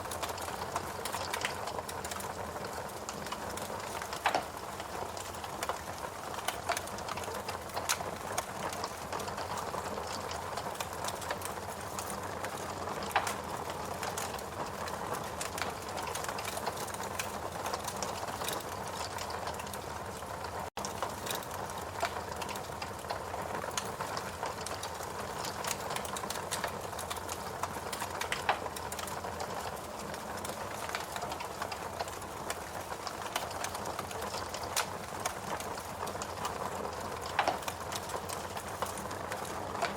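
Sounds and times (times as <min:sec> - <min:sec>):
fireplace crackling: 0:00.0 - 0:39.9.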